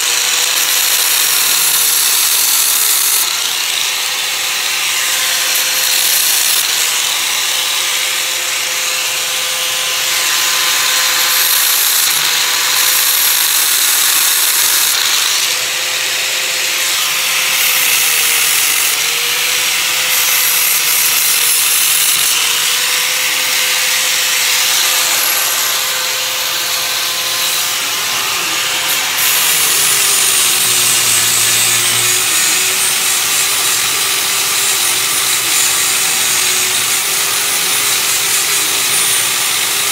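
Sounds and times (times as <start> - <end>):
power tool sanding metal: 0.0 - 39.9.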